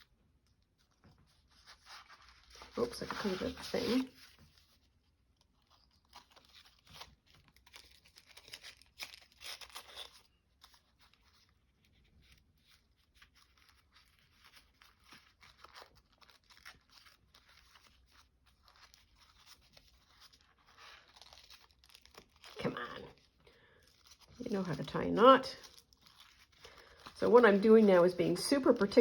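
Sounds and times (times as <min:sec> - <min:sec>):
paper rustling and crinkling: 0:00.0 - 0:29.0.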